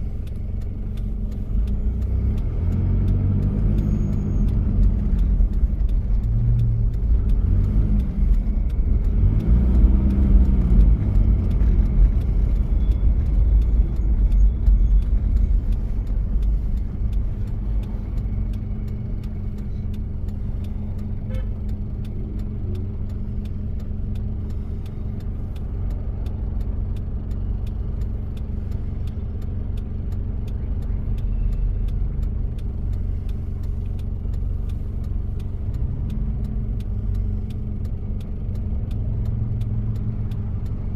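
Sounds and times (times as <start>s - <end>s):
diesel engine revving: 0.0s - 40.9s.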